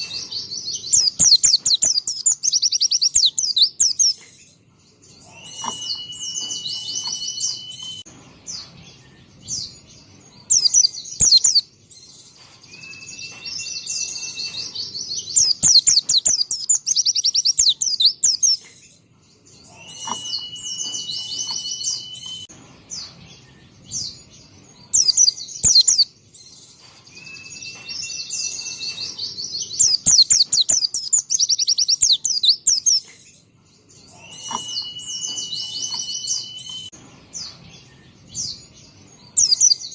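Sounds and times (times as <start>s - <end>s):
bird twittering trills: 0.0s - 39.9s.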